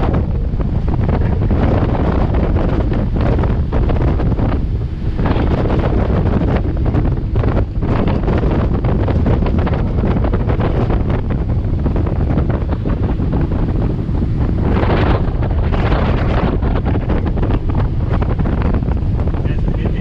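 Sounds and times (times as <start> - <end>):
boat engine drone: 0.0 - 20.0
rushing water: 0.0 - 20.0
wind buffeting microphone: 0.0 - 20.0.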